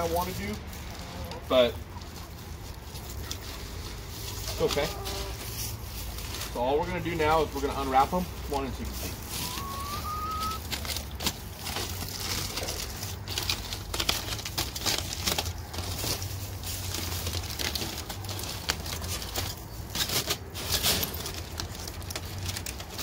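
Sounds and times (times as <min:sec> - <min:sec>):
aluminium foil crinkling: 0:00.0 - 0:23.0.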